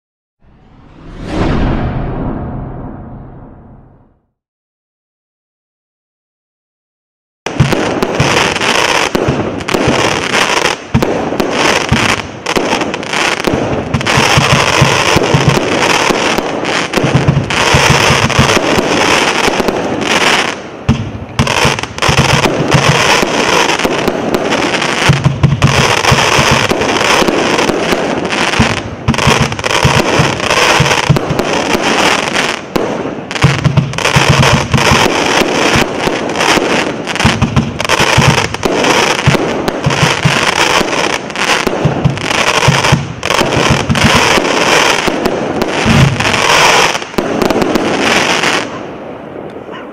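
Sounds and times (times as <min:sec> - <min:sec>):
fireworks shots launching and bursting: 0:07.5 - 0:49.3.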